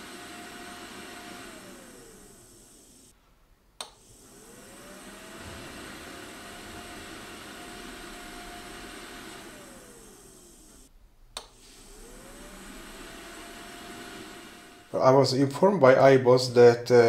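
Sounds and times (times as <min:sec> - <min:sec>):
fan whirring: 0:00.0 - 0:03.2, 0:03.8 - 0:17.0.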